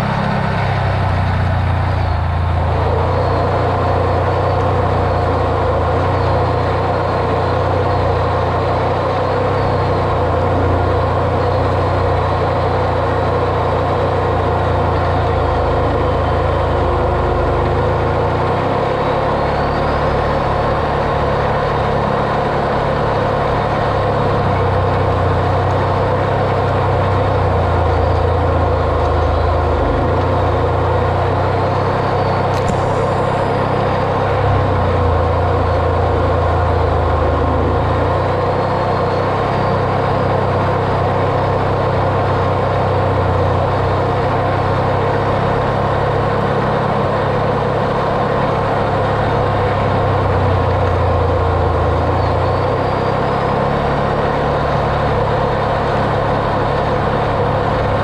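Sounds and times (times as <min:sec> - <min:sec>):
off-road vehicle engine droning: 0:00.0 - 0:58.0.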